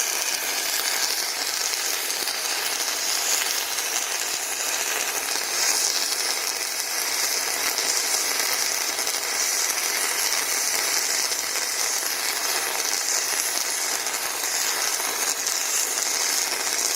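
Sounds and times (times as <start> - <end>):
welding arc crackling hiss: 0.0 - 16.9.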